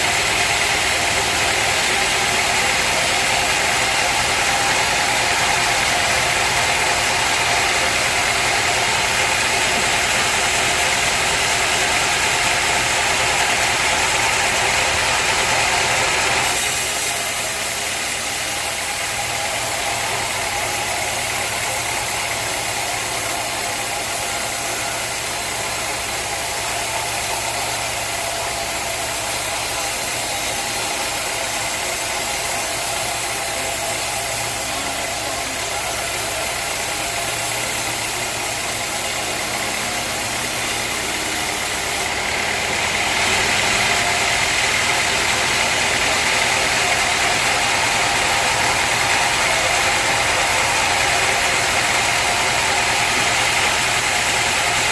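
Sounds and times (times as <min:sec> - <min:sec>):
loud hiss: 0:00.0 - 0:54.9
sawmill machinery engine: 0:00.0 - 0:54.9.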